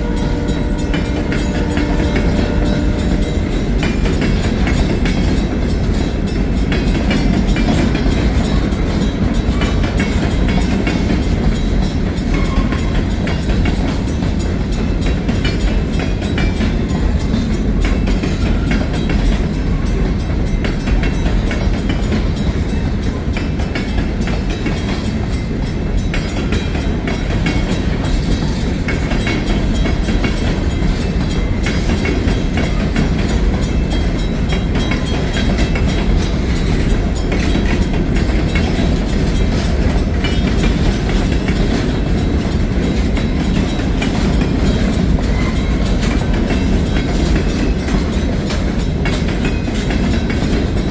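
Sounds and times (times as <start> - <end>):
freight train rumbling: 0.0 - 50.9
wheels clicking over rail joints: 0.0 - 50.9.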